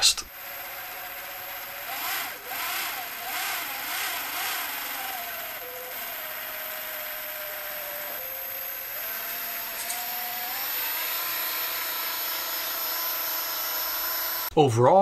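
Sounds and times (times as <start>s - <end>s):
electric boat motor whining: 0.3s - 14.5s.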